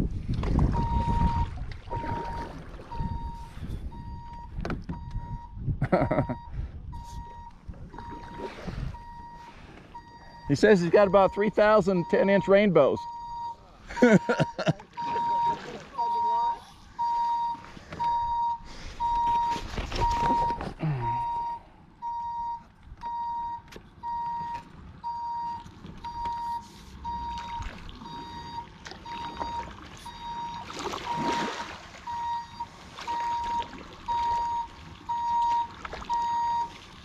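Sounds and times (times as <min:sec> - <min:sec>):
truck reversing beeper: 0:00.7 - 0:36.8.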